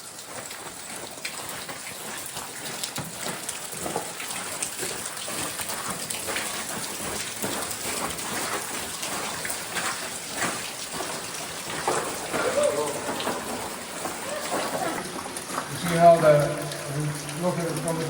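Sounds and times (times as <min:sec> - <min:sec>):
water drops pattering: 0:00.0 - 0:18.0.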